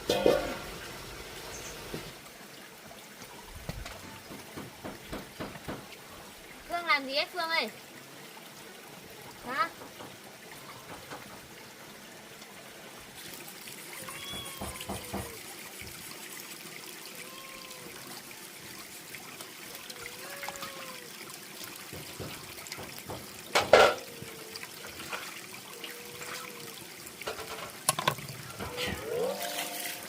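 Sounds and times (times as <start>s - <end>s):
water trickling: 0.0s - 30.0s.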